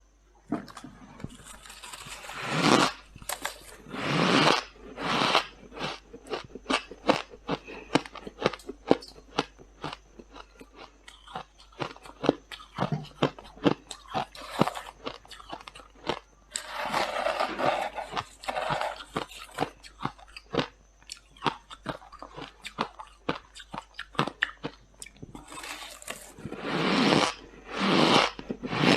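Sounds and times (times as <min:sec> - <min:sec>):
frost being chewed: 0:00.5 - 0:03.9, 0:04.6 - 0:26.6.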